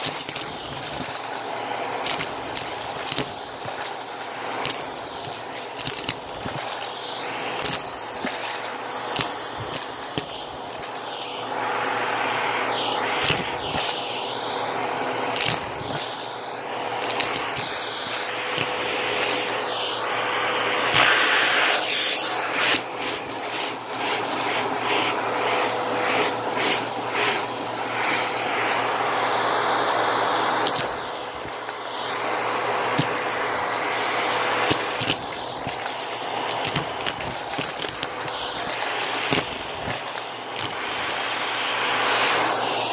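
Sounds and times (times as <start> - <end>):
coins clicking in vacuum: 0.0 - 11.3, 12.6 - 14.4, 15.0 - 28.5, 30.6 - 42.1
brush scrubbing carpet: 0.0 - 42.9
vacuum cleaner running: 0.0 - 42.9.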